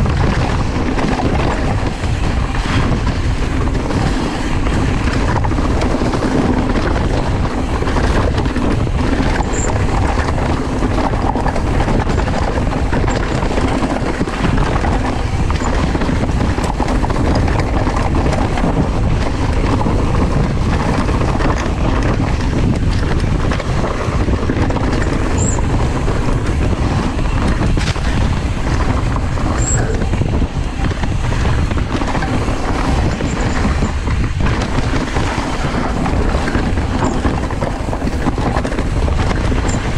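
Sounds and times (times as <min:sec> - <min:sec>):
bike tyres on dirt trail: 0:00.0 - 0:39.9
wind rushing on microphone: 0:00.0 - 0:39.9.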